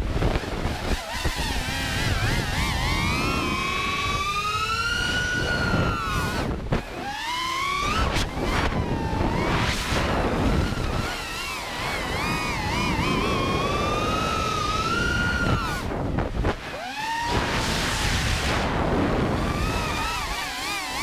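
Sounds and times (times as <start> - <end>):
drone motors whining: 0.0 - 21.0
wind noise on microphone: 0.0 - 21.0.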